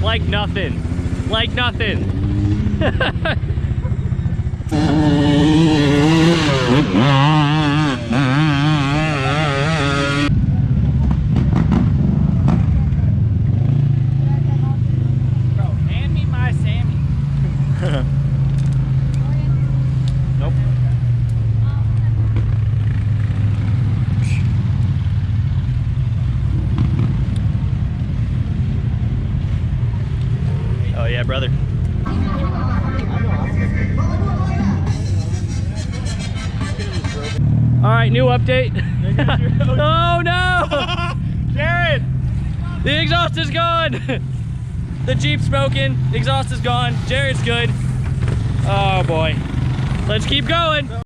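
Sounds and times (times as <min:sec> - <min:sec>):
car engine revving: 0:00.0 - 0:21.2, 0:29.7 - 0:51.0.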